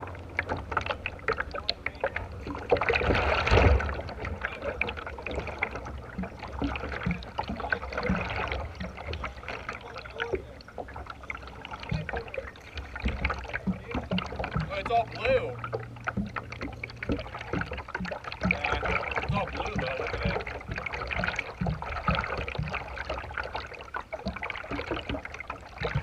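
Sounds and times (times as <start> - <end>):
kayak paddle splashing: 0.0 - 26.0.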